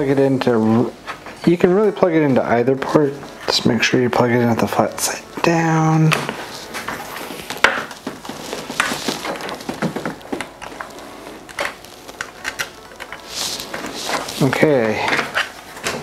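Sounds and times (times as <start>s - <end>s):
handling clicks and rustling: 0.2s - 16.0s.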